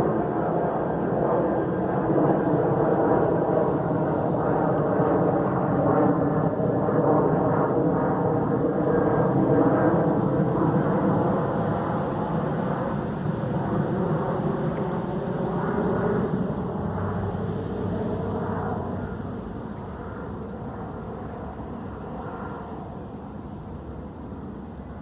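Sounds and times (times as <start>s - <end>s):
loud rumbling drone from sky: 0.0s - 25.0s.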